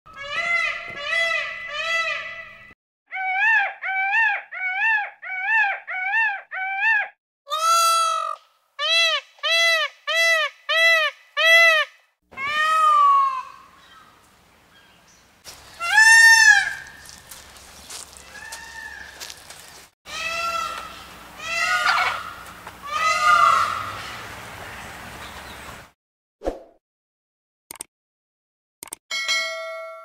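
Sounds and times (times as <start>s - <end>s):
peacock calling: 0.1s - 24.3s.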